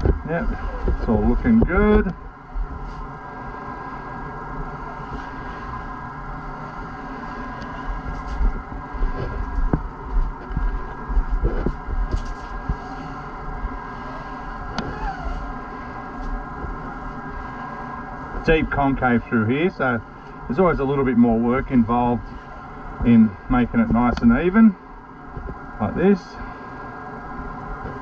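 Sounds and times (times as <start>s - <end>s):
mechanical hum with low rumble: 0.0s - 28.0s.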